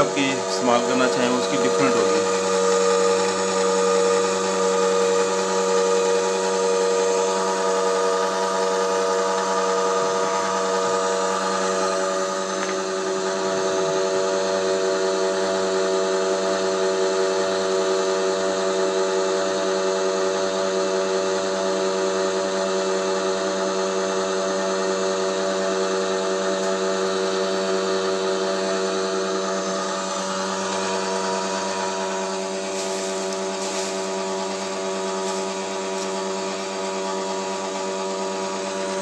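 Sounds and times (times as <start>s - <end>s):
oil press motor humming and whining: 0.0s - 39.0s.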